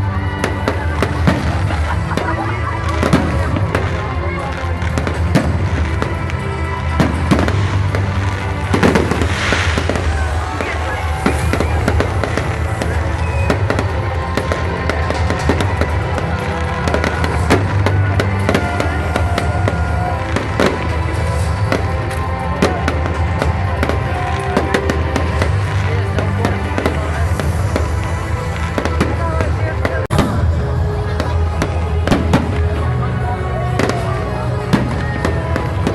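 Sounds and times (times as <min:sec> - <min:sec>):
fireworks bangs and crackling: 0:00.0 - 0:35.9
music playing: 0:00.0 - 0:35.9.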